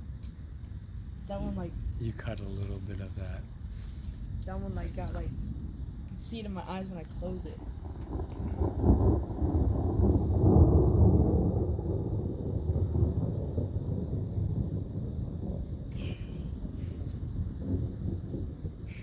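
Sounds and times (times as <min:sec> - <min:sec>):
crickets trilling: 0:00.0 - 0:19.0
thunder rumbling: 0:00.0 - 0:19.0.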